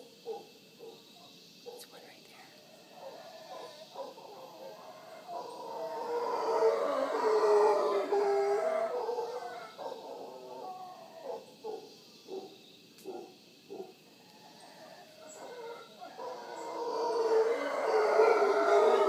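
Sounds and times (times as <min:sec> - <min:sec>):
howler monkeys howling: 0:02.6 - 0:19.0.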